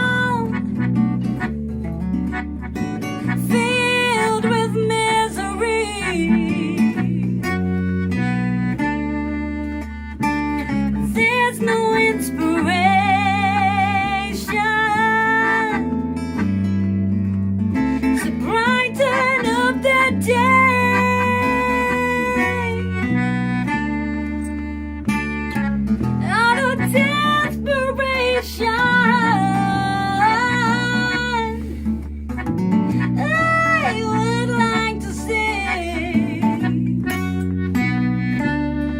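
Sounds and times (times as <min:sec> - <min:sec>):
acoustic guitar strumming: 0:00.0 - 0:38.9
held wavering melody notes: 0:00.0 - 0:38.9.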